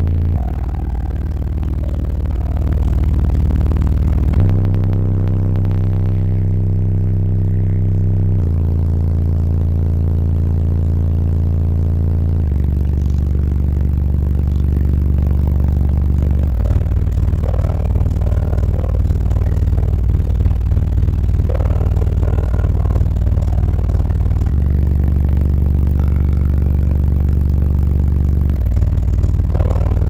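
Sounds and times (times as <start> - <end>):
deep subwoofer bass notes: 0.0 - 30.0.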